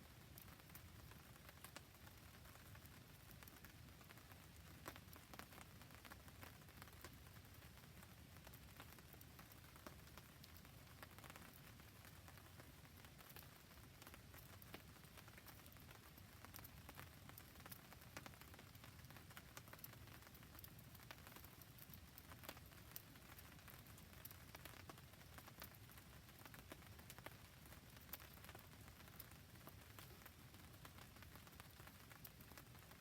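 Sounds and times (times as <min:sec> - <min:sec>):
campfire crackling: 0:00.0 - 0:33.0
faint steady rain: 0:00.0 - 0:33.0.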